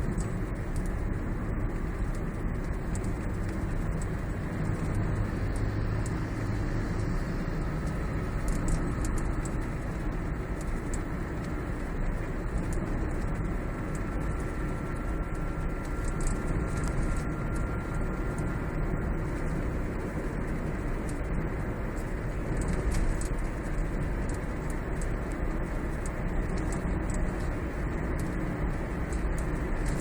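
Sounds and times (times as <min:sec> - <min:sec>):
car cabin road noise: 0:00.0 - 0:30.0
faint high rattle ticks: 0:00.1 - 0:30.0.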